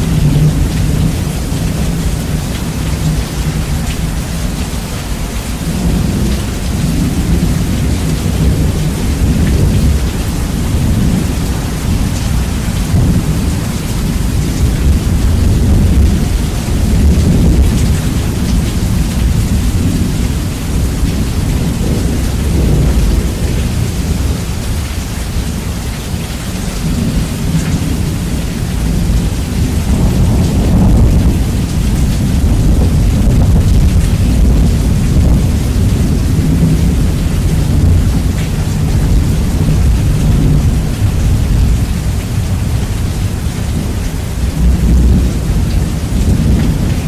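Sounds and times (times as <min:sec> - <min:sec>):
heavy rain hissing: 0:00.0 - 0:47.0
rumbling thunder: 0:00.0 - 0:47.0.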